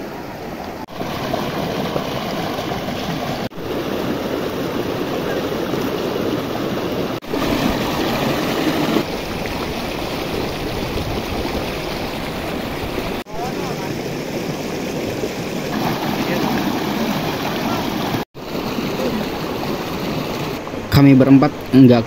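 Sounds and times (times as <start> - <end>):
stream rushing over boulders: 0.0 - 21.8.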